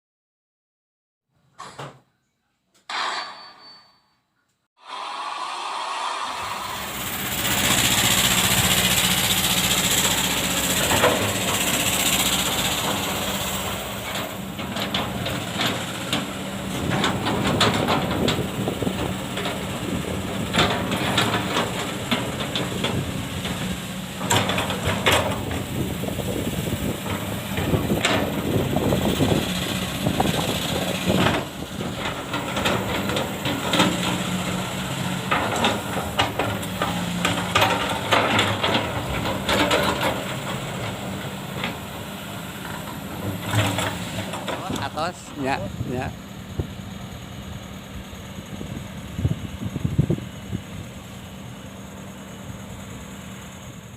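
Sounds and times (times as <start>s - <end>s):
excavator diesel engine running: 5.0s - 53.9s.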